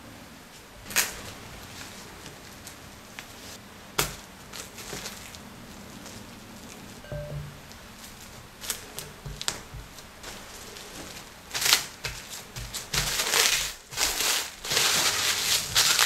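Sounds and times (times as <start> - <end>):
plastic cling film crinkling: 0.9 - 7.0, 8.0 - 16.0.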